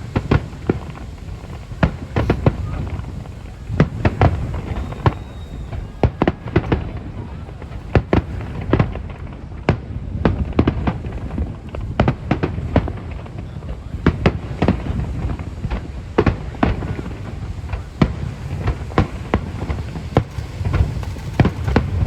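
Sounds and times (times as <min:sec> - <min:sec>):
continuous low rumble: 0:00.0 - 0:22.0
fireworks bursting: 0:00.0 - 0:22.0.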